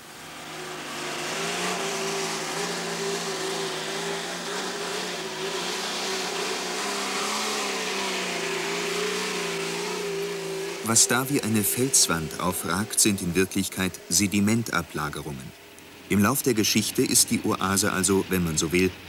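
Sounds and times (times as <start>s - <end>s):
off-road vehicle engine: 0.0s - 19.0s.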